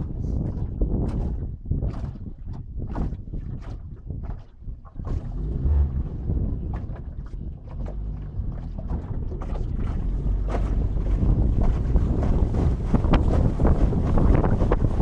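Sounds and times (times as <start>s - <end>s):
water splashing against boat: 0.0s - 15.0s
wind buffeting microphone: 0.0s - 15.0s.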